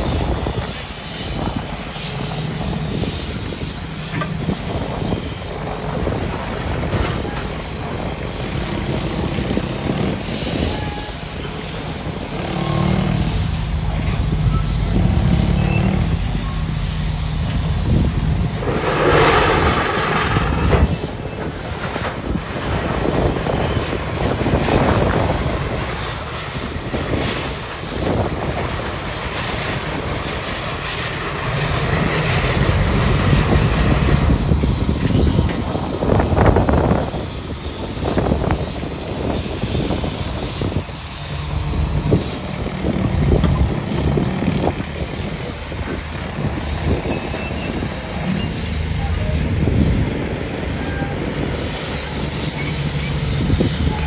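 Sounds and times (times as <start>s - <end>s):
steam rush: 0.0s - 54.0s
steam shovel machinery rumbling: 0.0s - 54.0s.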